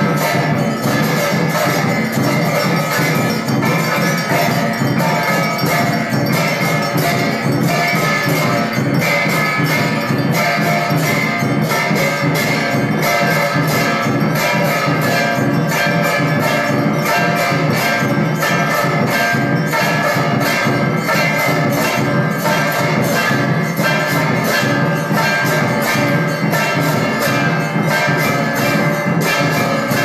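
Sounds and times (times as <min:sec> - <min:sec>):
temple bells ringing: 0:00.0 - 0:30.0.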